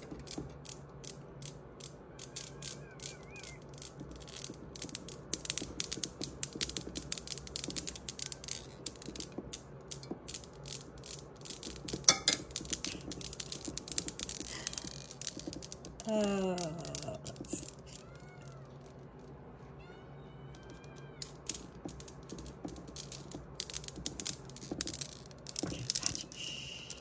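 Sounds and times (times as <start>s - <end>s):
metal balls clicking together: 0.0s - 19.5s, 20.5s - 27.0s.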